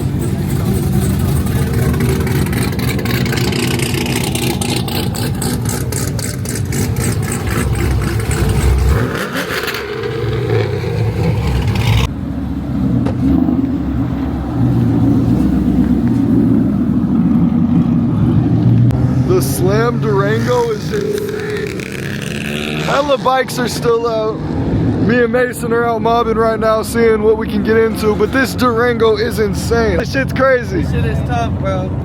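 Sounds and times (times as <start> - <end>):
car engine revving: 0.0 - 31.6.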